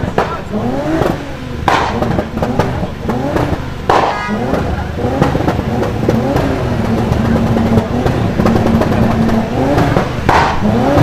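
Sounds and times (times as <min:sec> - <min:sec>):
loud car engine revving: 0:00.0 - 0:11.0.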